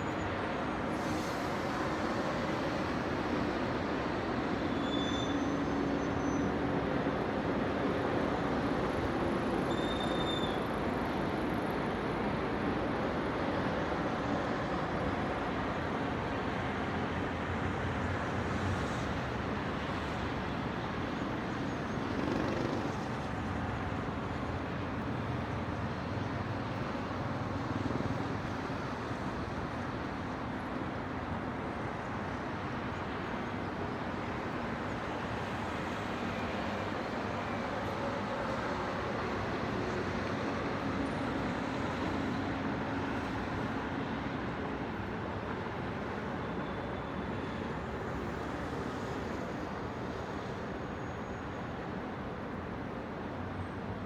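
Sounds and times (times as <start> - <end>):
city traffic noise: 0.0 - 54.0.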